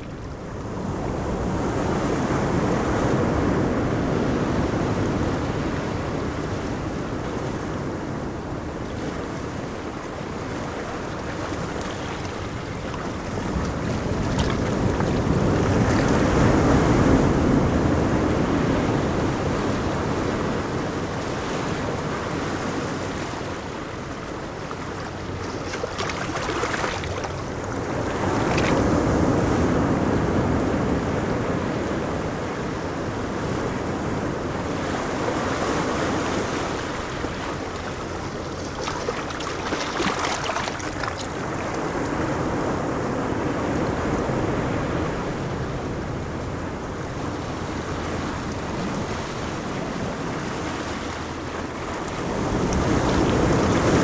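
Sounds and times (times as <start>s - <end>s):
ocean waves breaking: 0.0s - 54.0s
wind on microphone: 0.0s - 54.0s.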